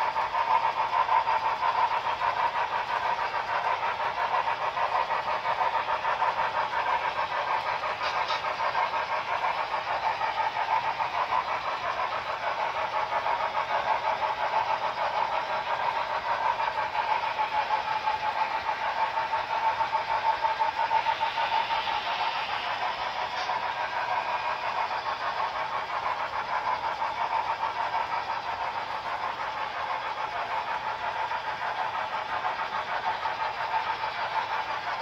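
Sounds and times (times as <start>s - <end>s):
model train wheels clattering: 0.0s - 35.0s.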